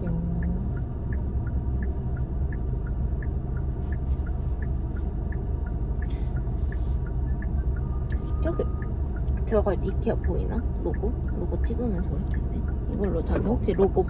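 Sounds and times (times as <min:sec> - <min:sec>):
car cabin rumble: 0:00.0 - 0:14.0
turn signal ticking: 0:00.0 - 0:14.0.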